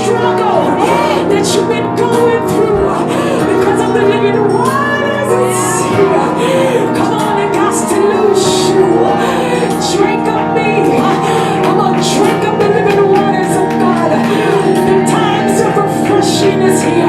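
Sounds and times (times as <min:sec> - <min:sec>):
person singing: 0:00.0 - 0:17.0
sustained keyboard chords: 0:00.0 - 0:17.0.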